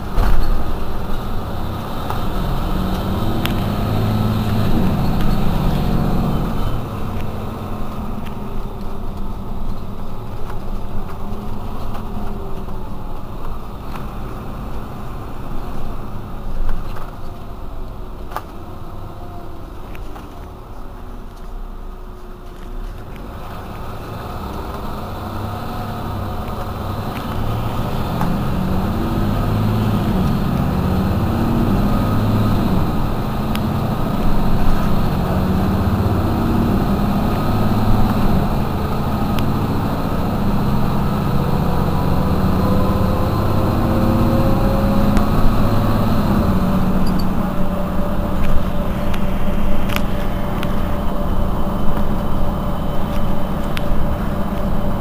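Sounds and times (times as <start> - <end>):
bus engine running under load: 0.0 - 55.0
rising engine whine: 0.0 - 55.0.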